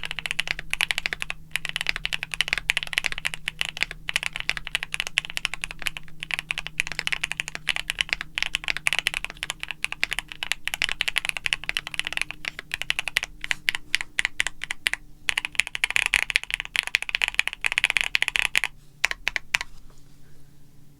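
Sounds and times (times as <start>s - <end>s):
fast irregular clicking: 0.0s - 19.7s.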